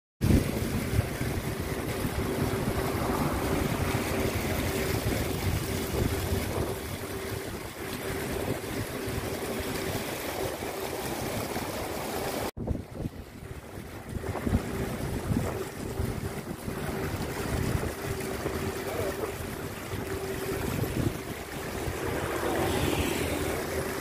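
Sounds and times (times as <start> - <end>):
fountain water splashing: 0.2 - 24.0.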